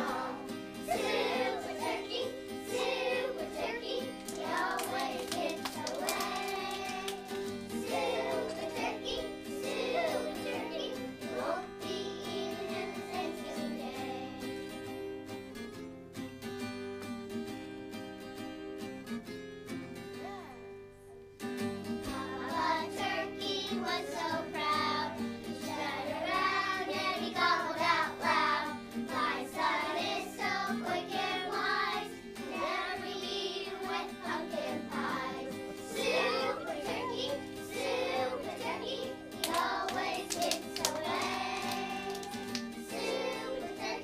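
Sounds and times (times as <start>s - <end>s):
children singing: 0.0s - 14.6s, 22.1s - 44.0s.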